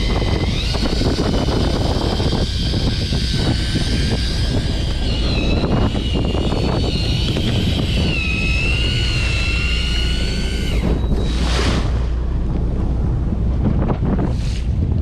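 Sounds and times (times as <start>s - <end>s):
high wavering whine: 0.0s - 14.4s
boat engine rumble: 0.0s - 15.0s
wind and water noise: 0.0s - 15.0s.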